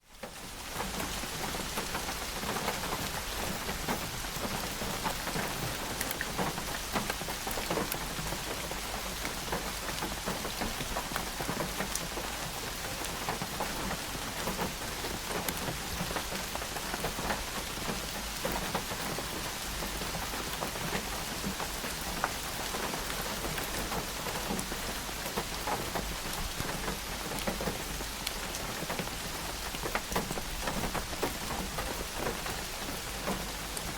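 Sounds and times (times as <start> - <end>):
raindrops ticking on surfaces: 0.0 - 33.9
steady rainfall: 0.0 - 33.9.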